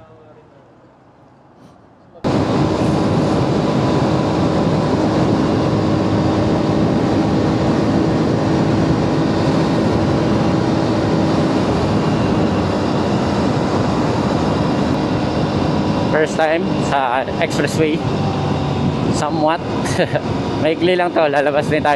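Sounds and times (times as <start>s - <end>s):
wind noise rushing: 2.2s - 21.9s
motorcycle engine running: 2.3s - 21.9s.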